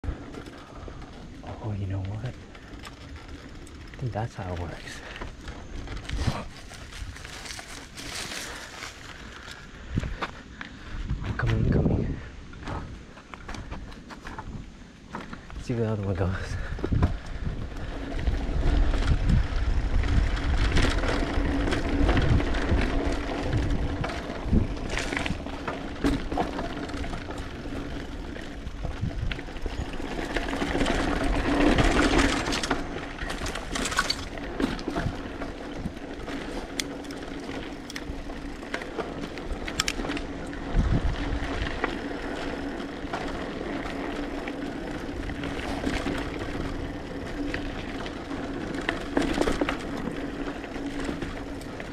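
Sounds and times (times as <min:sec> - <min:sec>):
bike tyres rolling on dirt: 0:00.0 - 0:51.9
wind buffeting microphone: 0:00.0 - 0:51.9
bike rattles and knocks: 0:00.1 - 0:10.4, 0:12.6 - 0:51.9.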